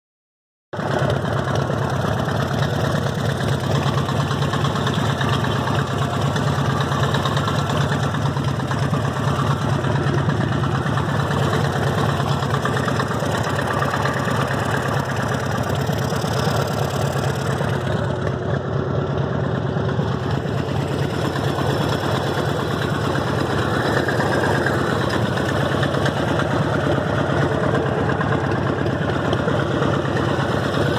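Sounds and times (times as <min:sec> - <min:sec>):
engine mechanical knock: 0:00.8 - 0:18.8, 0:19.4 - 0:30.9
motorcycle engine idling: 0:00.8 - 0:30.9.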